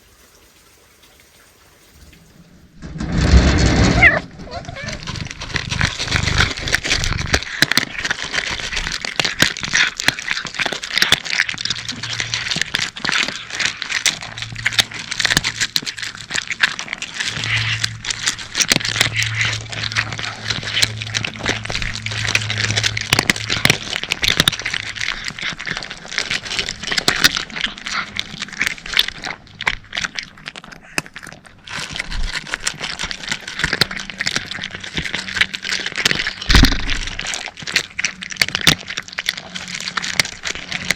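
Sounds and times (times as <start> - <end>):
cats crunching dry kibble: 2.7 - 40.9.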